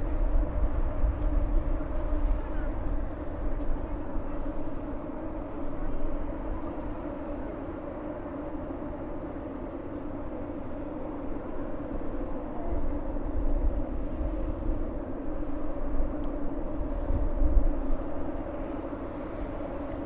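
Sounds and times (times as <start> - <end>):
sustained hum: 0.0 - 20.0
traffic drone: 0.0 - 20.0
wind rumbling on microphone: 0.0 - 20.0.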